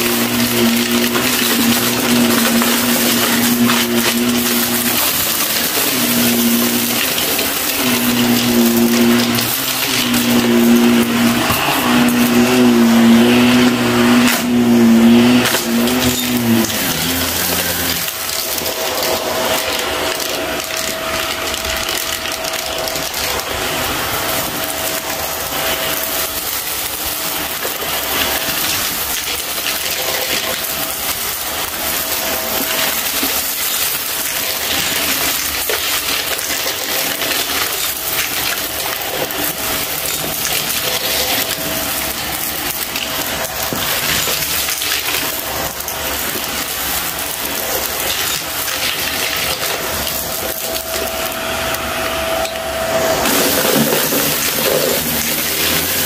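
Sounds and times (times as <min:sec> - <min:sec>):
debris crackling through vacuum nozzle: 0:00.0 - 0:56.0
vacuum cleaner motor whine: 0:00.0 - 0:56.0.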